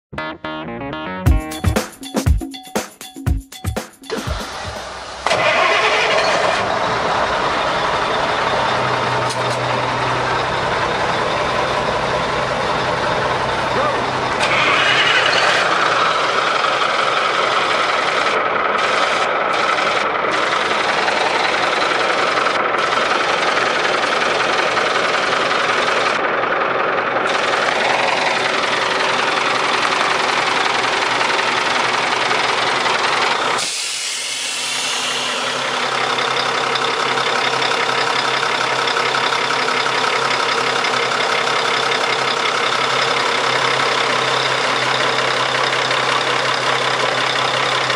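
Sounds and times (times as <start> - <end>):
diesel truck engine idling: 4.3 - 47.9.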